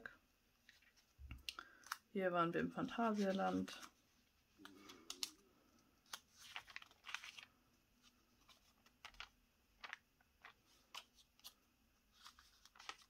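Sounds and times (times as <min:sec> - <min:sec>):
paper pages rustling: 0:00.6 - 0:02.0, 0:02.8 - 0:13.0.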